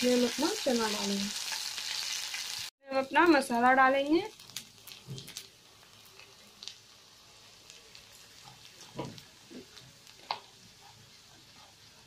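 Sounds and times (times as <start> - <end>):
spices sizzling in oil: 0.0 - 12.0.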